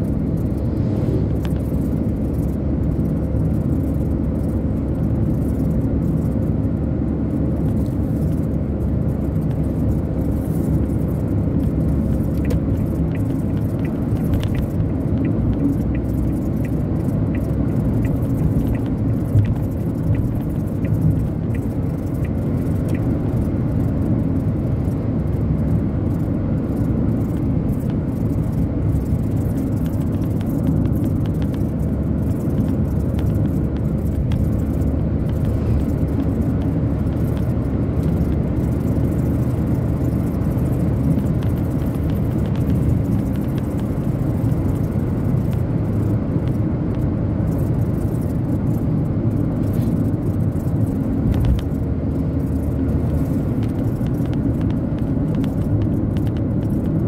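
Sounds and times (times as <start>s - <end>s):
car road and engine rumble: 0.0s - 57.0s
faint small rattles: 0.0s - 57.0s.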